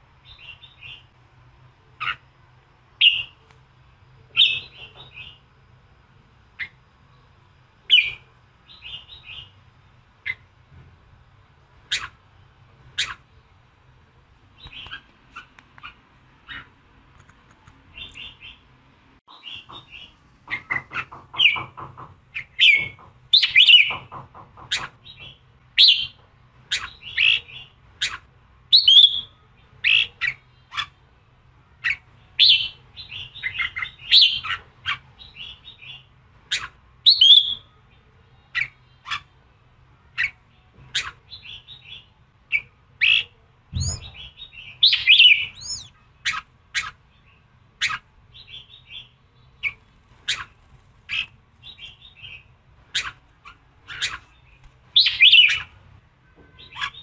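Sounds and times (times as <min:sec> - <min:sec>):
bird chirping and warbling: 0:00.2 - 0:01.1, 0:01.9 - 0:02.3, 0:03.0 - 0:03.4, 0:04.3 - 0:05.5, 0:06.6 - 0:07.2, 0:07.8 - 0:09.6, 0:11.8 - 0:13.5, 0:14.6 - 0:16.8, 0:17.8 - 0:31.1, 0:31.8 - 0:39.4, 0:40.0 - 0:57.0.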